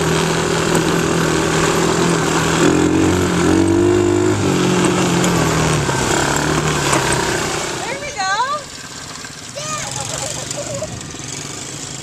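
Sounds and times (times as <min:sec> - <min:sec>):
small atv engine running: 0:00.0 - 0:12.0
wind and riding noise: 0:00.0 - 0:12.0.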